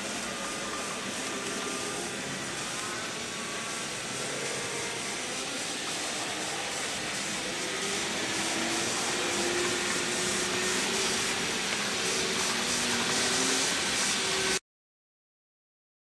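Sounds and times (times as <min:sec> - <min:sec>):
model train whirring on track: 0:00.0 - 0:14.6.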